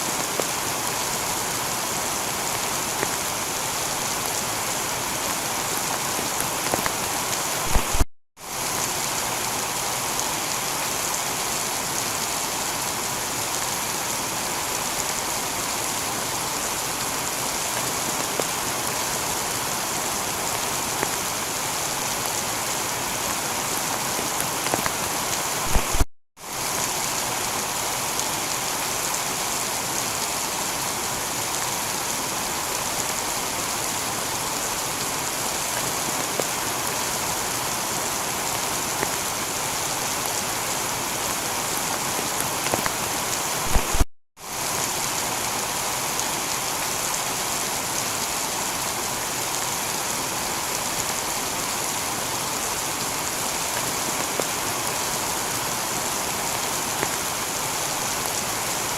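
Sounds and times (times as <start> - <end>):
heavy rain on a tiled roof: 0.0 - 58.9.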